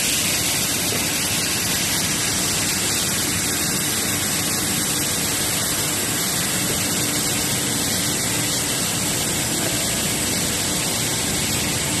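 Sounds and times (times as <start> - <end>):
loud machinery hiss: 0.0 - 12.0.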